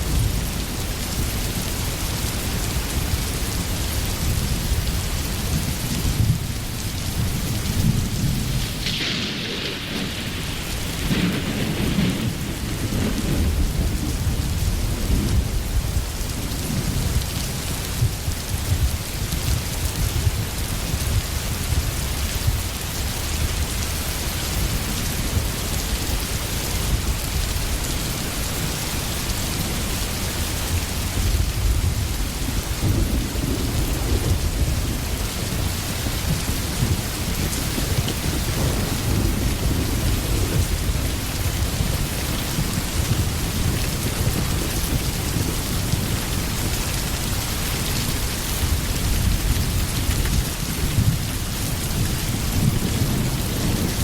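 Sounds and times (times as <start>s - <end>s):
heavy rain falling: 0.0s - 54.0s
low rolling thunder: 0.0s - 54.0s.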